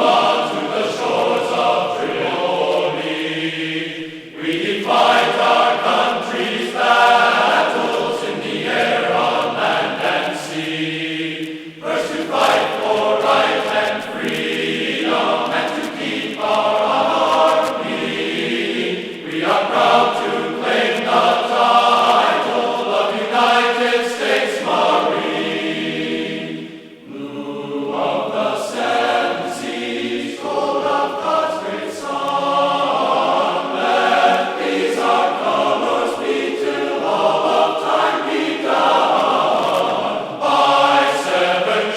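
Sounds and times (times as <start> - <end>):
choir singing held notes: 0.0 - 41.9.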